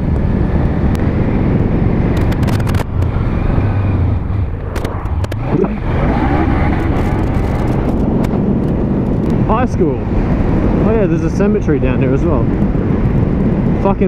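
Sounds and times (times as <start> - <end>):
motorcycle engine revving: 0.0 - 13.9
wind rumble on microphone: 0.0 - 14.0.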